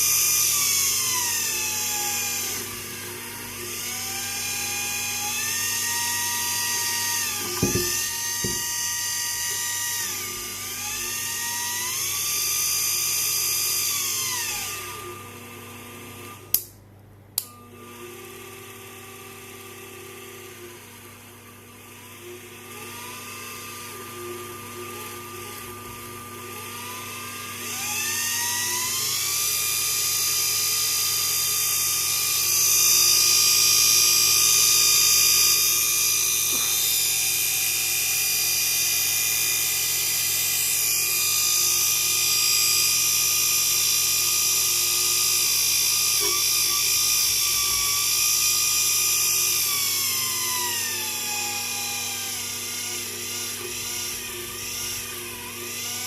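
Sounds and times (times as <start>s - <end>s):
vacuum cleaner motor whining: 0.0s - 16.6s, 17.4s - 56.0s.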